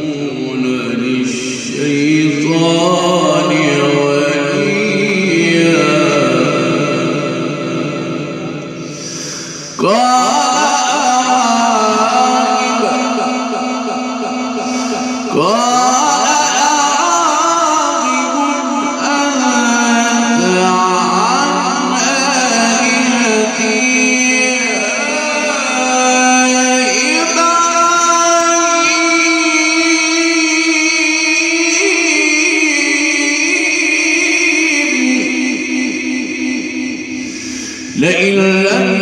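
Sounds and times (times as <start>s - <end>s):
man reciting melodically: 0.0s - 39.0s.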